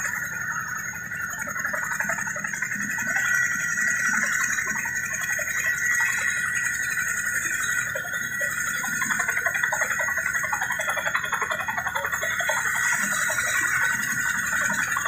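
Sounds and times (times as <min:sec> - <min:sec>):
helicopter engine whine: 0:00.0 - 0:15.0.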